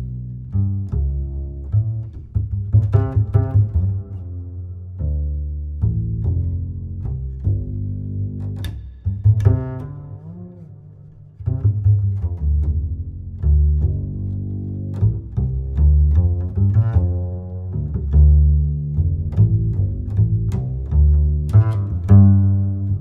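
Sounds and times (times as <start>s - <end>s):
music of low plucked notes: 0.0s - 23.0s.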